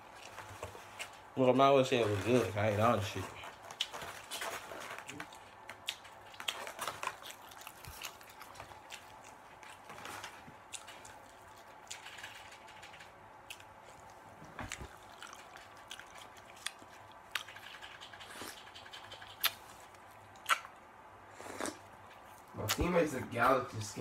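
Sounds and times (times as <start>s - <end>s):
faint chewing: 0.0s - 23.0s.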